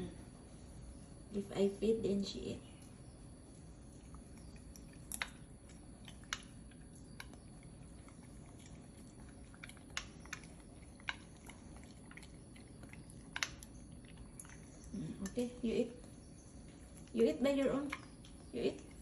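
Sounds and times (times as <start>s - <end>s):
puppy chewing food: 2.6s - 19.0s.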